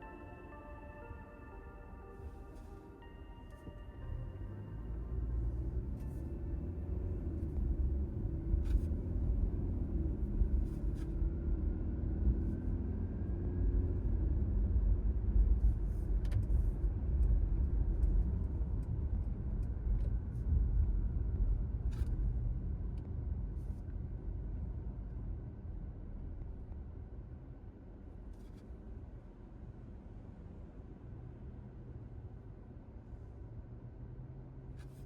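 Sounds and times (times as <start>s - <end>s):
car engine and tyres rumbling: 0.0s - 35.0s.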